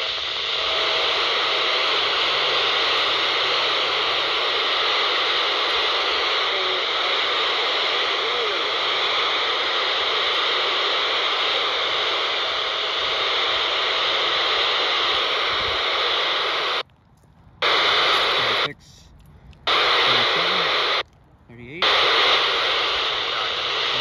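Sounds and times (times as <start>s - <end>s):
radio static hiss: 0.0s - 16.8s, 17.6s - 24.0s.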